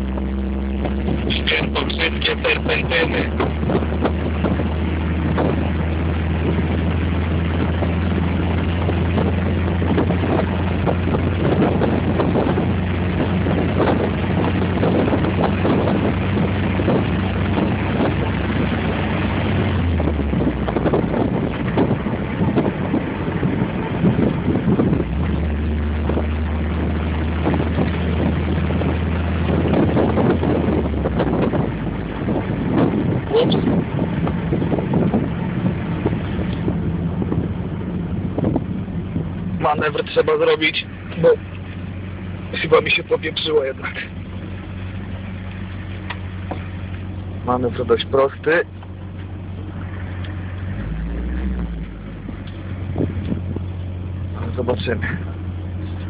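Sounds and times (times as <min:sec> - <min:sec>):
car engine running: 0:00.0 - 0:56.0
road and wind noise: 0:00.0 - 0:56.0.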